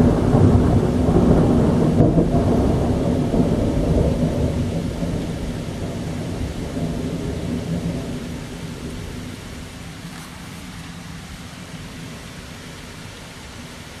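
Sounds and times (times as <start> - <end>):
thunder rumbling: 0.0 - 12.3
steady rain: 0.0 - 14.0.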